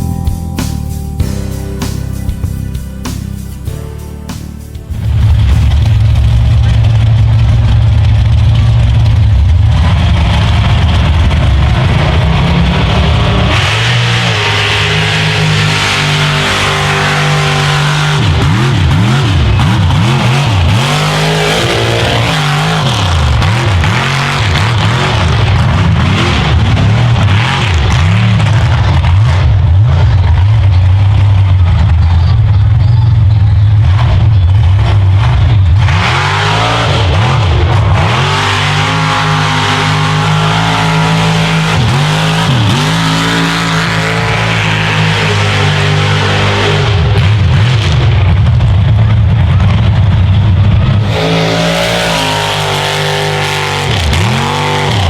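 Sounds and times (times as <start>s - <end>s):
truck engine revving hard: 0.0s - 55.0s.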